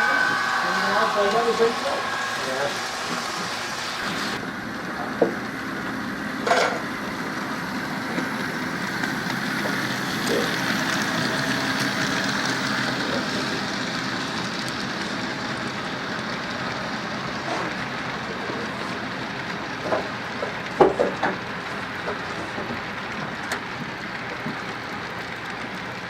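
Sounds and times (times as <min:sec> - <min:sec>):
model train running: 0:00.0 - 0:26.0.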